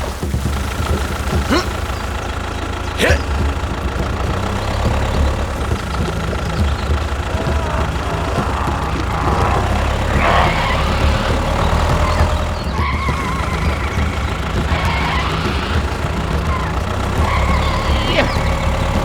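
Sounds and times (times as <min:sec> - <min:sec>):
vehicle engine rumbling: 0:00.0 - 0:19.0
wavering squeals: 0:01.5 - 0:19.0.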